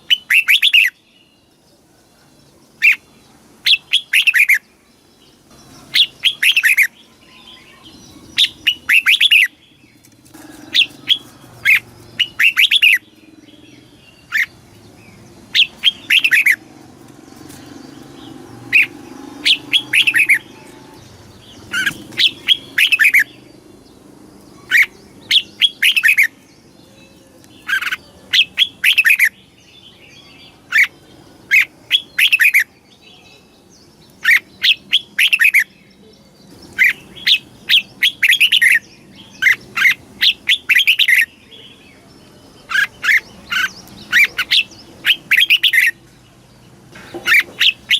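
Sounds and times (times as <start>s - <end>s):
bird singing whistled notes: 0.0s - 1.4s, 2.8s - 4.8s, 5.5s - 16.6s, 17.6s - 23.6s, 24.6s - 46.0s.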